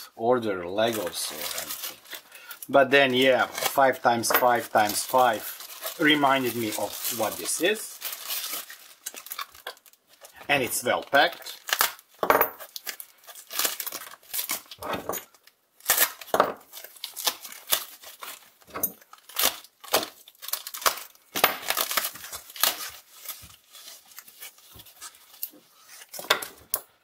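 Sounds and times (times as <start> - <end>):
plastic wrap crinkling: 0.6 - 26.7.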